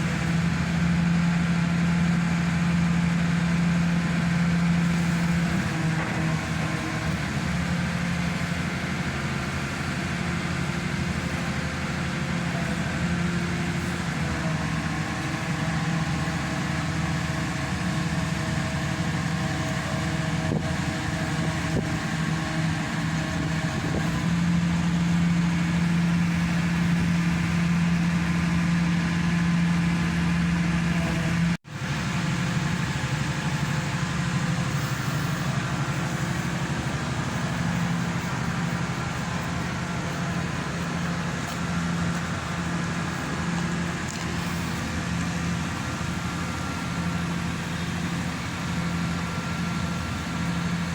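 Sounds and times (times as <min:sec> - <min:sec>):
hydraulic power unit humming: 0:00.0 - 0:50.9.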